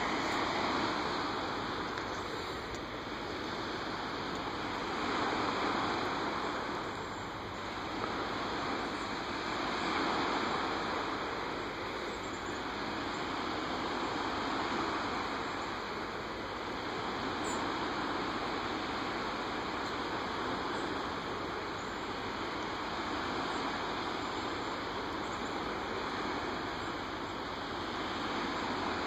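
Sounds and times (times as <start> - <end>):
lake waves washing on sand: 0.0 - 29.0.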